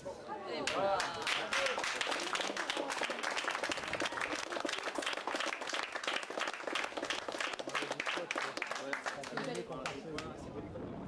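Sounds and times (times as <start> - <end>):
people applauding: 0.6 - 10.4.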